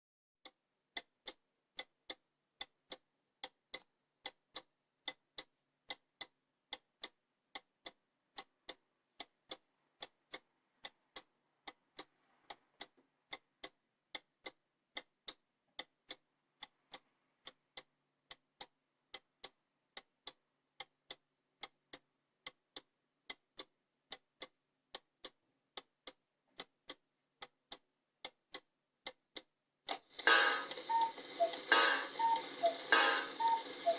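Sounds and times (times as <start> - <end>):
clock ticking: 0.4 - 33.9.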